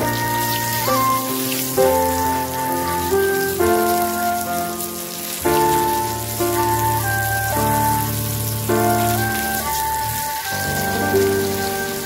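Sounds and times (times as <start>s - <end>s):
background music of held notes: 0.0s - 12.0s
food sizzling in hot oil: 0.0s - 12.0s.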